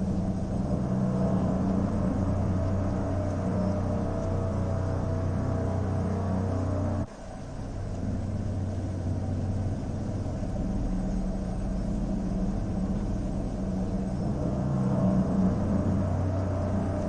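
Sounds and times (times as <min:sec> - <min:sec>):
dark ambient drone music: 0:00.0 - 0:17.0.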